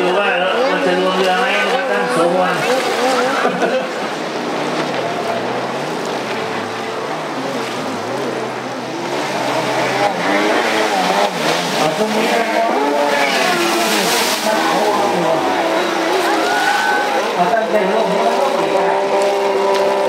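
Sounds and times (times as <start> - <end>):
jet ski engines revving: 0.0 - 20.0
steady rushing noise: 0.3 - 19.0.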